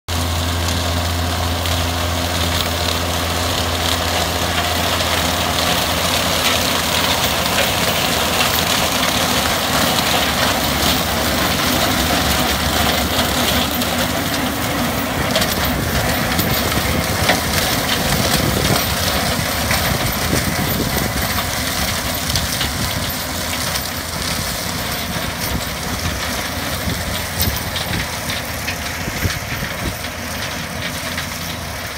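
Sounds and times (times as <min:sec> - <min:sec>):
rotary cutter shredding stalks: 0:00.1 - 0:31.9
tractor engine hum: 0:00.1 - 0:31.9.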